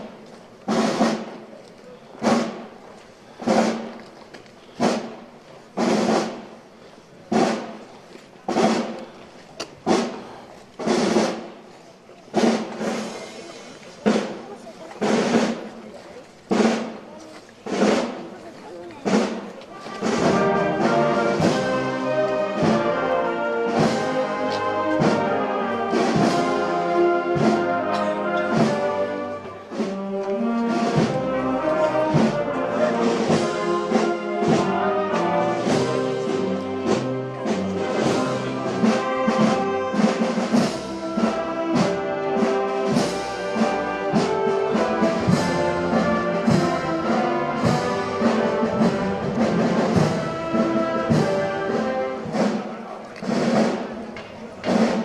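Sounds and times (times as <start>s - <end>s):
brass band playing march: 0.0s - 4.0s, 4.6s - 55.0s
drums beating: 0.0s - 55.0s.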